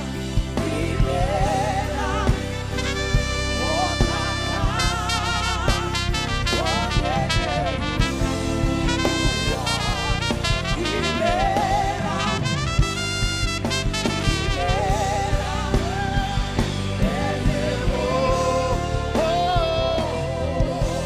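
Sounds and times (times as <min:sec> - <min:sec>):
live worship band music: 0:00.0 - 0:21.0
steady drum beat: 0:00.0 - 0:21.0
person singing: 0:00.6 - 0:12.6, 0:14.3 - 0:21.0.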